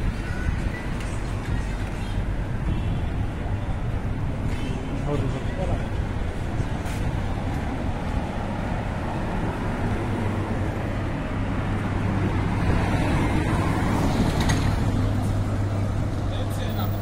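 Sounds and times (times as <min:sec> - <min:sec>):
passing cars: 0:00.0 - 0:17.0.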